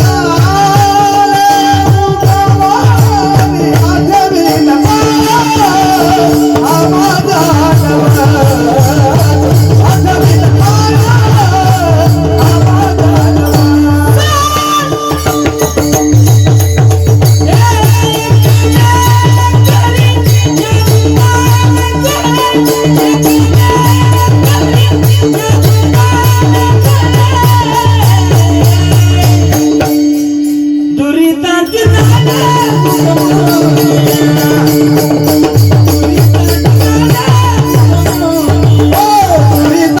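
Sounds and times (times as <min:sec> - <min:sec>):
person singing: 0:00.0 - 0:16.0, 0:17.4 - 0:40.0
drum beating fast rhythm: 0:00.0 - 0:30.5, 0:31.6 - 0:40.0
jingling hand percussion: 0:00.0 - 0:40.0.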